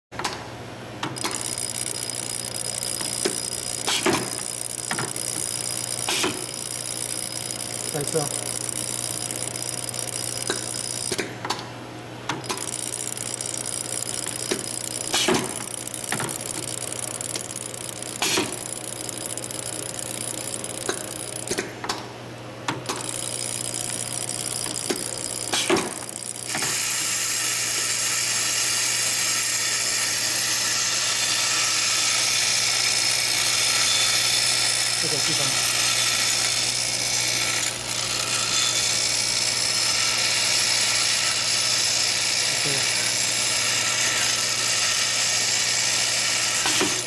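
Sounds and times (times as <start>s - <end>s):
pneumatic clicks and clacks: 0.2s - 11.7s, 12.3s - 22.1s, 22.7s - 47.0s
machine motor hum: 0.2s - 47.0s.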